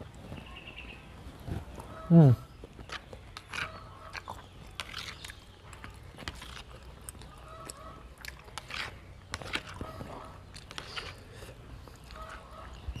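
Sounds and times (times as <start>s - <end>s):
person chewing food: 1.6s - 13.0s.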